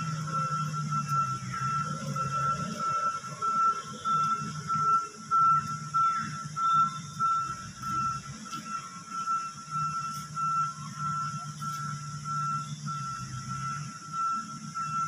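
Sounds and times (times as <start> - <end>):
engine droning: 0.0 - 15.0
reversing alarm beeping: 0.0 - 15.0.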